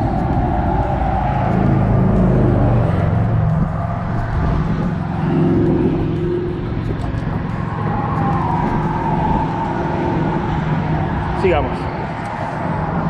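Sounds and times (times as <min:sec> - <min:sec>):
road traffic rumble: 0:00.0 - 0:13.0
tire hum: 0:00.0 - 0:13.0.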